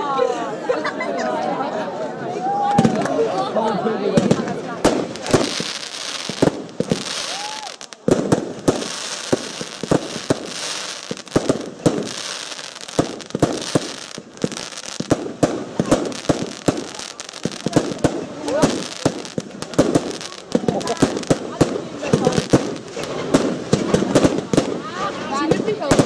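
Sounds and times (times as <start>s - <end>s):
fireworks bursting with bangs: 2.7s - 3.2s, 4.1s - 26.0s
fireworks crackling hiss: 4.2s - 26.0s.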